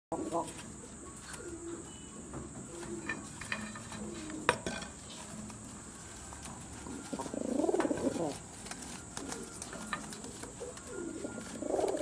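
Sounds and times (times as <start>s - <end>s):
pigeons cooing: 0.1s - 12.0s.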